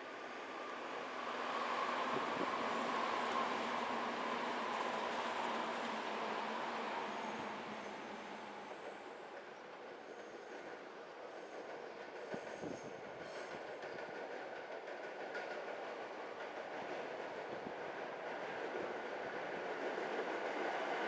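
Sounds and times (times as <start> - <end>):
electric train rolling on tracks: 0.0 - 21.0.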